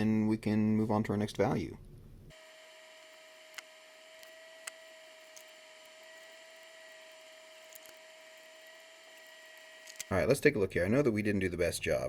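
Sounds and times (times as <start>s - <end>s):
electrical whine and hum: 0.0s - 12.0s.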